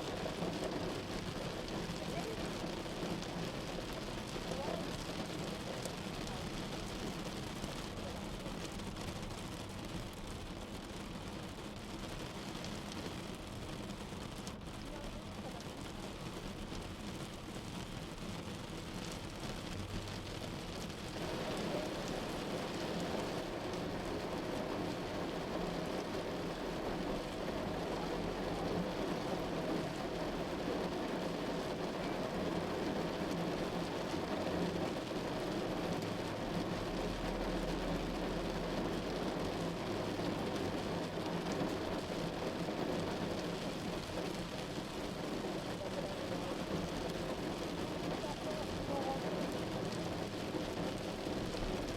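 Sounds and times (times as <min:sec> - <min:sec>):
rain falling on a car: 0:00.0 - 0:51.9
road and engine noise: 0:00.0 - 0:51.9.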